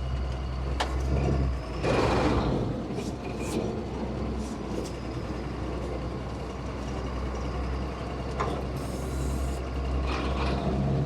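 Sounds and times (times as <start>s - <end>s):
heavy truck engine droning: 0.0s - 11.0s.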